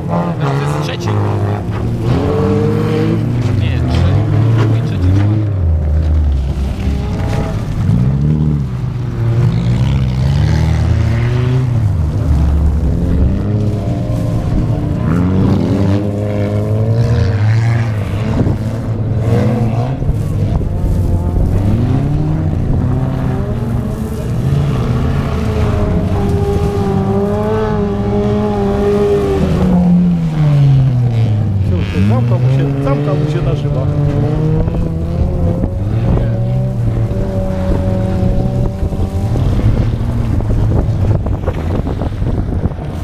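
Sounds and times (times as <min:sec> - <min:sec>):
race car engines revving: 0:00.0 - 0:43.0.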